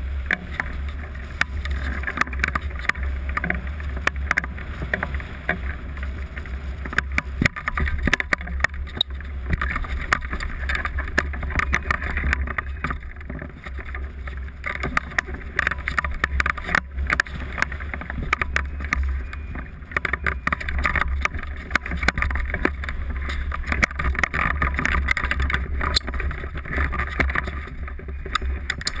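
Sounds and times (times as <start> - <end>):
clicks and crackles: 0.0 - 29.0.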